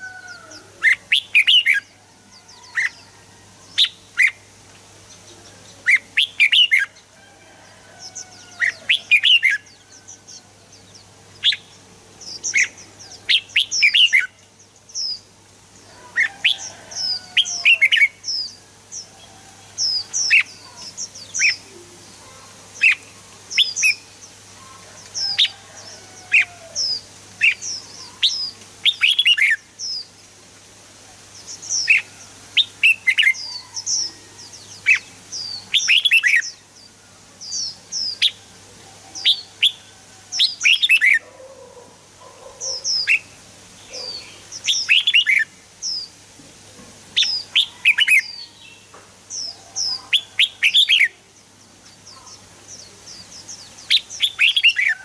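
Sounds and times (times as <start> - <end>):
bird chirping: 0.0 - 7.0, 8.1 - 30.2, 31.4 - 46.2, 47.2 - 55.0
faint steady hum: 0.0 - 55.0.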